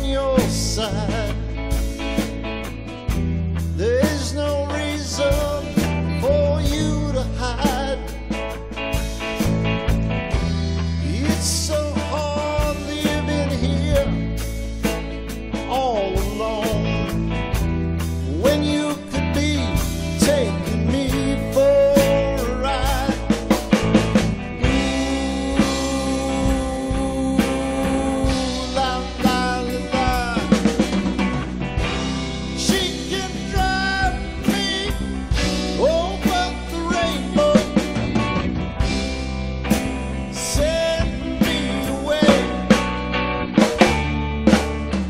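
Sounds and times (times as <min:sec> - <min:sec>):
bass: 0:00.0 - 0:45.0
drums: 0:00.0 - 0:45.0
electric guitar lead: 0:00.0 - 0:45.0
electric piano: 0:00.0 - 0:45.0
organ: 0:00.0 - 0:45.0.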